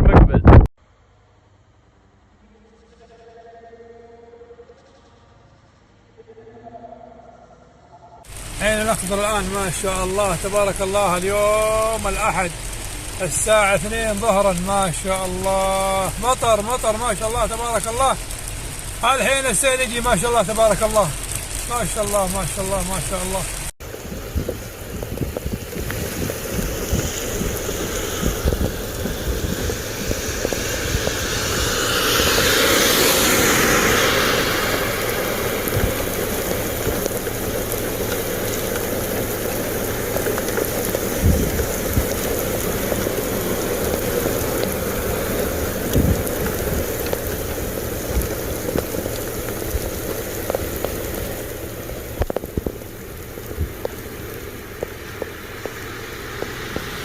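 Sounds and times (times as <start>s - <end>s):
steady rain falling: 8.2s - 57.0s.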